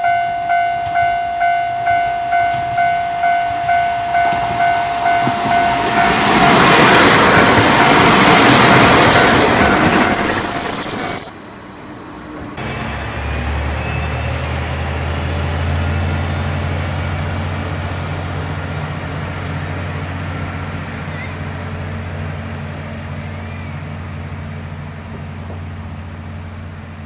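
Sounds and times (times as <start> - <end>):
diesel railcar engine drone: 0.0 - 27.0.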